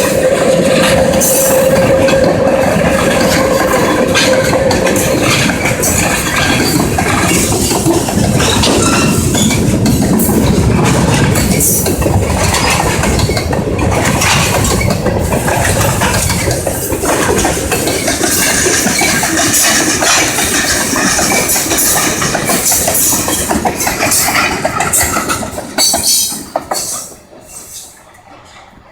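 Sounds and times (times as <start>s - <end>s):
train wheels clattering over rails: 0.0s - 28.9s.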